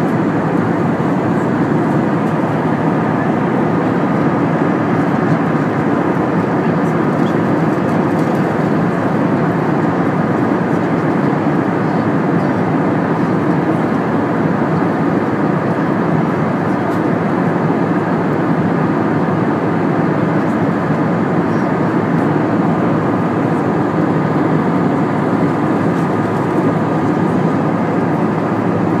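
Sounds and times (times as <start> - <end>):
airliner cabin drone and rush: 0.0 - 29.0.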